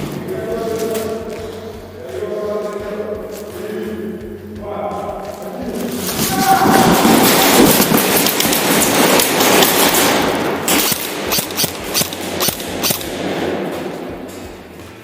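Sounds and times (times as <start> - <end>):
airsoft guns firing: 0.0 - 15.0
loud rushing noise: 0.0 - 15.0.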